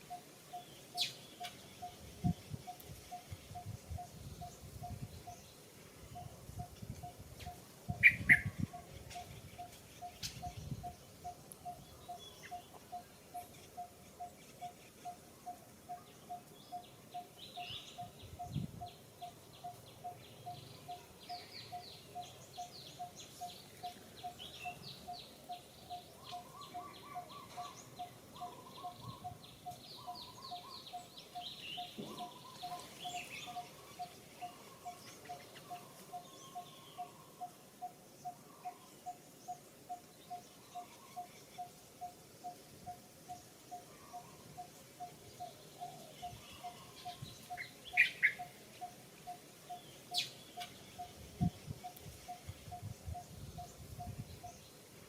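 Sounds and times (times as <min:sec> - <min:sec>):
birds chirping trills: 0:00.0 - 0:55.0.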